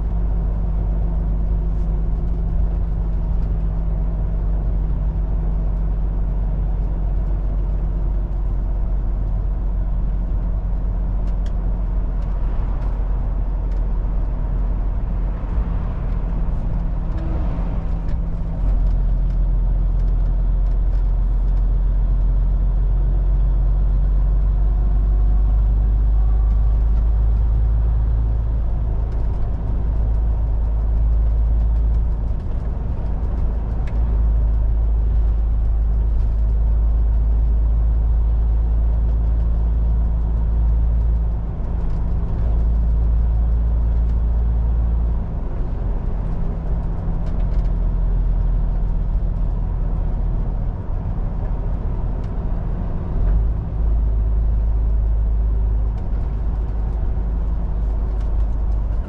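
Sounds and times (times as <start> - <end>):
diesel truck engine driving: 0.0 - 59.0
road noise: 0.0 - 59.0.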